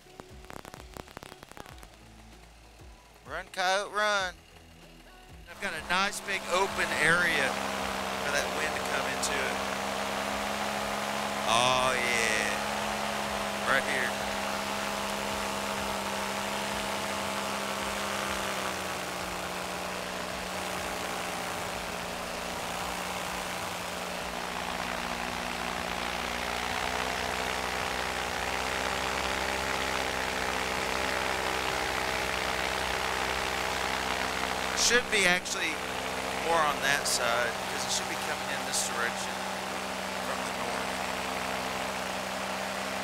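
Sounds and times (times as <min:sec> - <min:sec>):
paramotor engine and propeller: 0:00.0 - 0:43.0.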